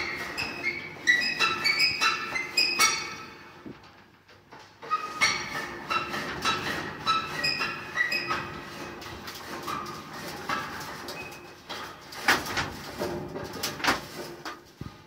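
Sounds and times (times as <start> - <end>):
metal shutter door clinking: 0.0 - 3.6, 4.8 - 14.8.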